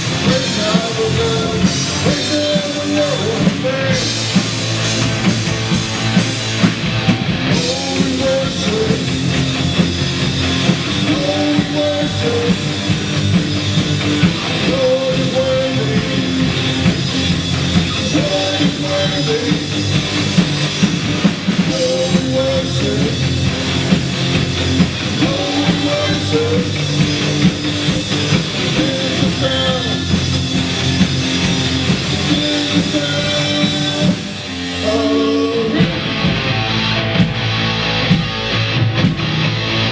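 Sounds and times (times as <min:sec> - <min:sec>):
drum kit beat: 0:00.0 - 0:39.9
electric guitars: 0:00.0 - 0:39.9
rock band playing: 0:00.0 - 0:39.9.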